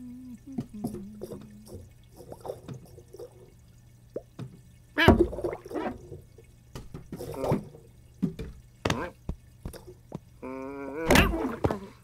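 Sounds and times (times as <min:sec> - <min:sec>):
water drips and plinks: 0:00.0 - 0:12.0.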